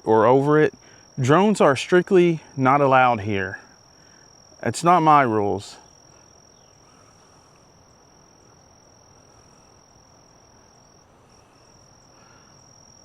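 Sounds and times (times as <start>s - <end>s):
high-pitched insect trilling: 0.0s - 13.0s.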